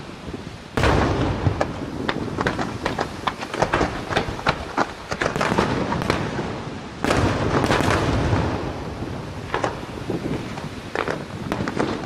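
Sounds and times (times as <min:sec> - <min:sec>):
fireworks cracking and popping: 0:00.3 - 0:12.0.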